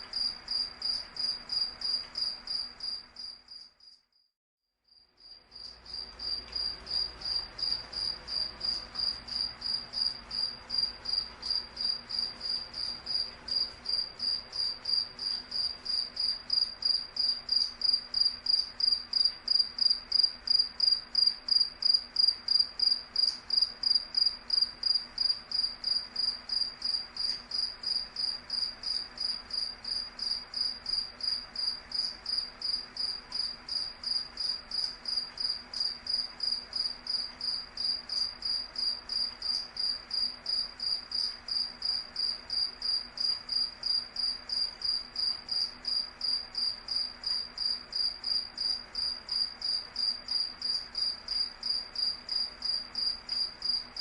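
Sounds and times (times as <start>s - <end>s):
cricket chirping: 0.1s - 4.3s, 4.9s - 54.0s.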